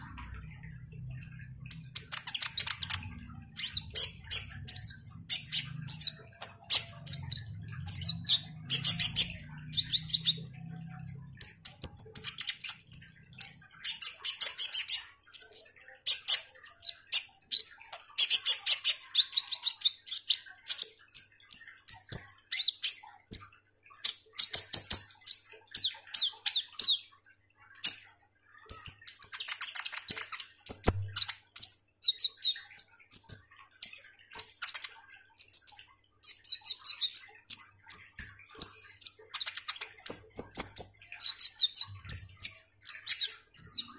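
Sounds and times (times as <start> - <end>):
bird singing high chirps and trills: 0.0 - 43.9.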